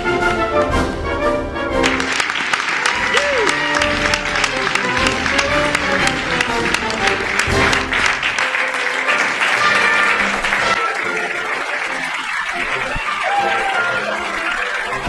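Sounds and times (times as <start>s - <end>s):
background music: 0.0s - 15.0s
audience applauding: 1.4s - 15.0s.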